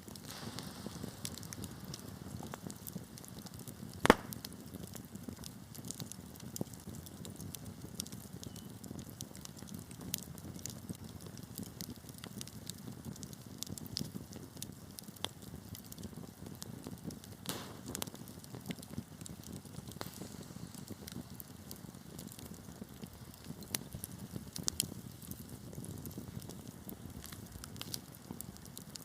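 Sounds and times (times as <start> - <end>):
logs crackling and popping: 0.0 - 29.0
low rumble of flames: 0.0 - 29.0.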